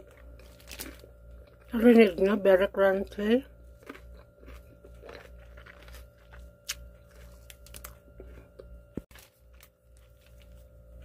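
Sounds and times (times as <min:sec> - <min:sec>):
person chewing crunchy food: 0:00.0 - 0:01.7, 0:03.6 - 0:11.0.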